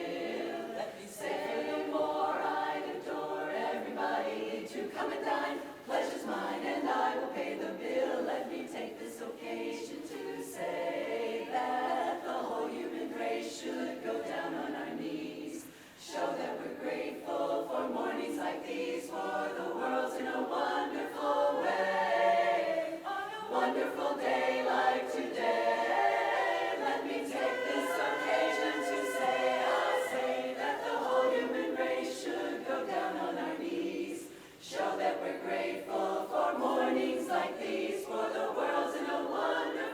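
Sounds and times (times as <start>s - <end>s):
a cappella choir singing: 0.0s - 39.9s.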